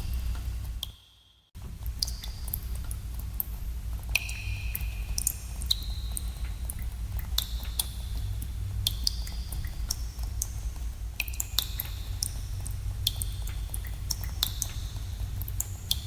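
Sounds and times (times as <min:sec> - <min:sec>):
steady low rumble: 0:01.6 - 0:16.0
water drops plinking into pools: 0:01.8 - 0:10.6, 0:11.2 - 0:16.0.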